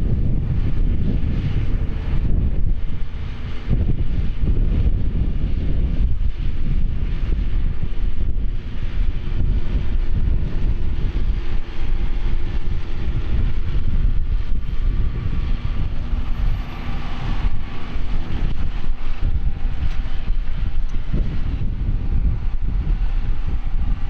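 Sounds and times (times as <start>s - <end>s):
tractor engine running: 0.0s - 24.0s
wind buffeting microphone: 0.0s - 24.0s.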